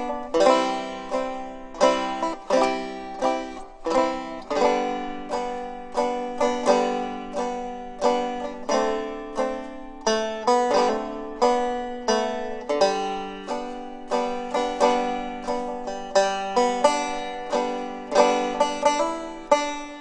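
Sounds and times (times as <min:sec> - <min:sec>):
plucked string instrument tune: 0:00.0 - 0:20.0.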